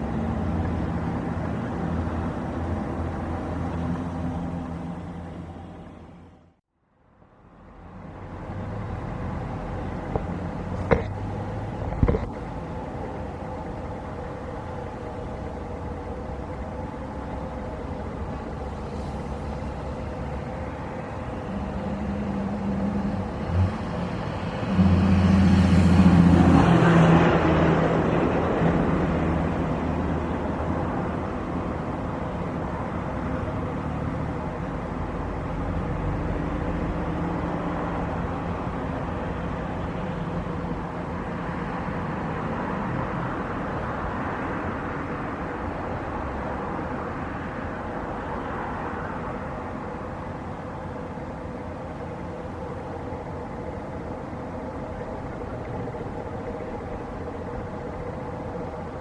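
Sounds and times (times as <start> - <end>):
jet airliner engines rumbling: 9.2 - 44.1, 44.7 - 59.0.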